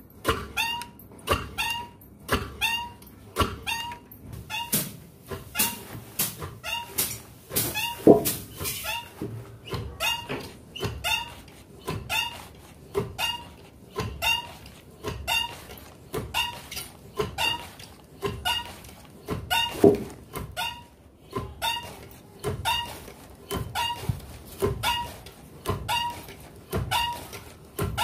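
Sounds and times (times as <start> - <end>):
wooden beam pivot squeaking: 0.2 - 28.0
wooden pestle knocking: 3.4 - 28.0.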